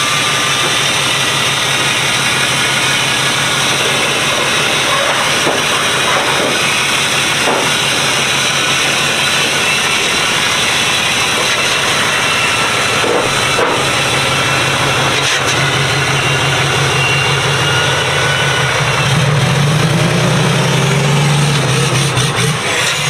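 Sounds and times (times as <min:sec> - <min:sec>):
pickup truck engine running: 0:00.0 - 0:23.0.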